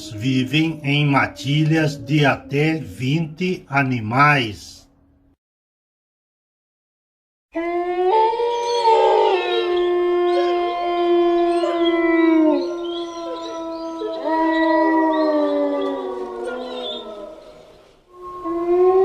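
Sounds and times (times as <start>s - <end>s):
wolves howling: 0.0s - 4.4s, 7.6s - 19.0s.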